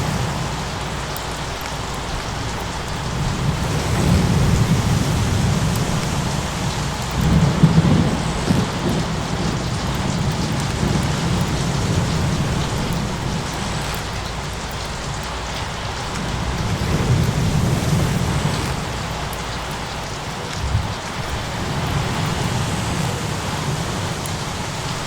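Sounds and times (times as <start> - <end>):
low rolling thunder: 0.0 - 25.0
steady rain: 0.0 - 25.0.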